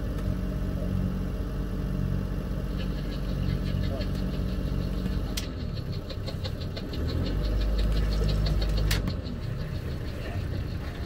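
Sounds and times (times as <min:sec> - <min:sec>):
boat engine running at low revs: 0:00.0 - 0:11.0.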